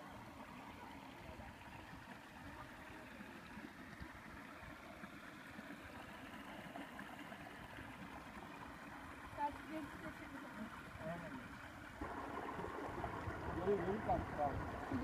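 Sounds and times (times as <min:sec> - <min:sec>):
low uneven rumble: 0:00.0 - 0:15.0
running water: 0:00.0 - 0:15.0.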